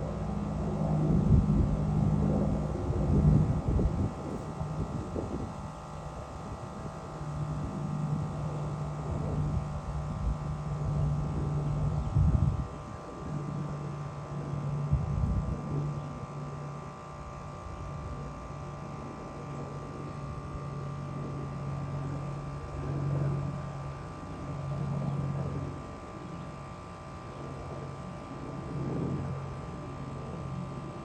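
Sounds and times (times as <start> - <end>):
helicopter flying past: 0.0 - 31.0.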